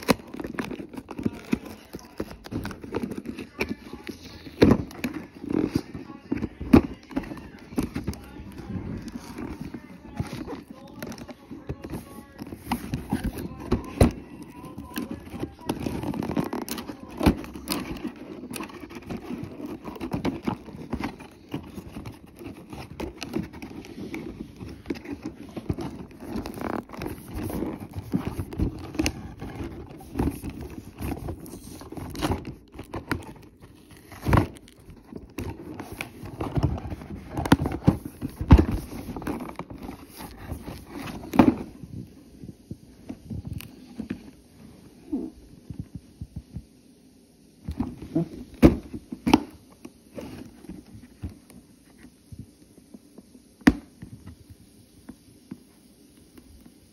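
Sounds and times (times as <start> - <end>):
packaging and cloth rustling: 0.0 - 45.9.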